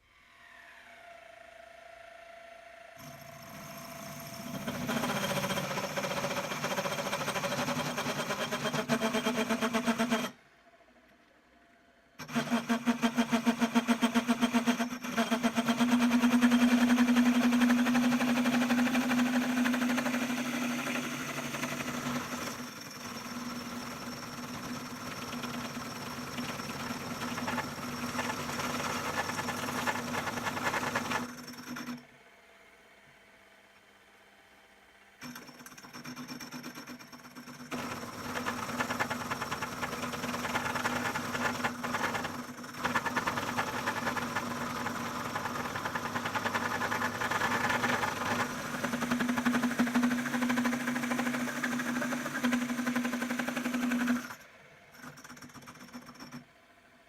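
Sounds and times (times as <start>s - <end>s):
benchtop machine tool motor whine: 0.0s - 10.4s, 12.2s - 32.2s, 35.2s - 56.4s.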